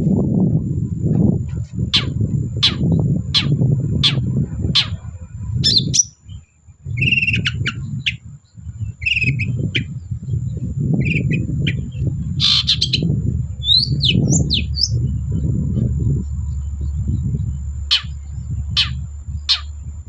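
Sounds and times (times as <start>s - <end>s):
loud low rumble: 0.0s - 20.0s
thin steady high whine: 0.0s - 20.0s
bird chattering song: 1.5s - 20.0s.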